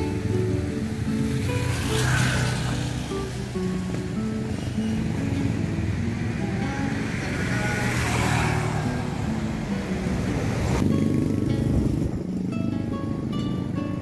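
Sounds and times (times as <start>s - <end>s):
motor vehicle passing: 0.0s - 14.0s
motorcycle engine close by: 0.0s - 14.0s
music of plucked notes: 0.0s - 14.0s.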